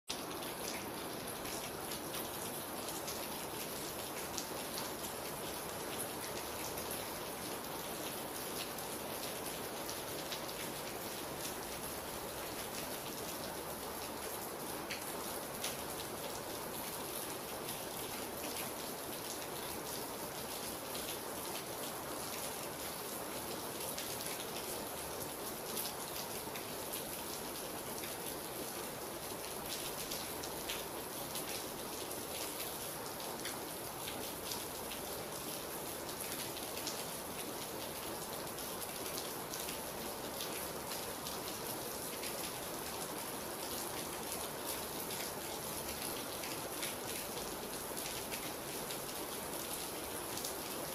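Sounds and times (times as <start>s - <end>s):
rain drops pattering: 0.1s - 50.9s.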